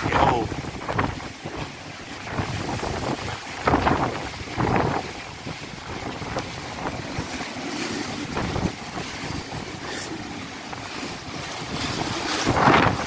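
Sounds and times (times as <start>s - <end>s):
wind gusting on microphone: 0.0s - 13.0s.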